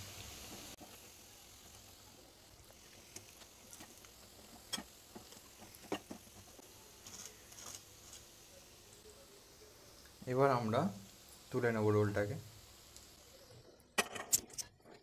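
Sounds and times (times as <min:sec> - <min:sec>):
rolls frying in oil: 0:00.0 - 0:15.0.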